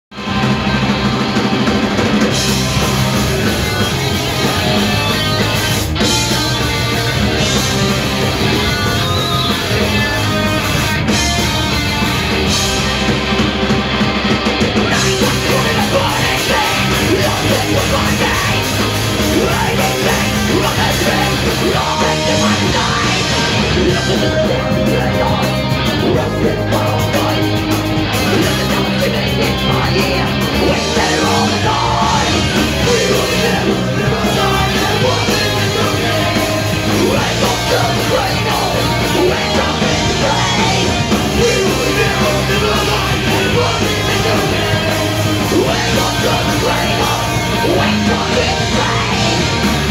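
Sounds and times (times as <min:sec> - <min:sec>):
distorted electric guitars: 0:00.1 - 0:49.9
drum kit: 0:00.1 - 0:49.9
lead vocal: 0:01.6 - 0:13.0, 0:14.7 - 0:49.9.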